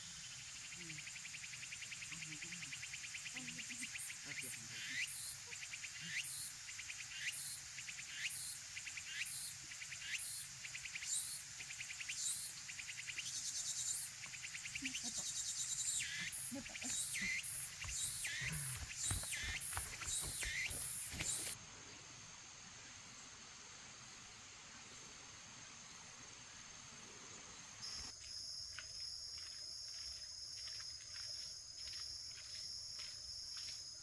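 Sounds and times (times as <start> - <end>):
insect chirping: 0.0 - 34.0.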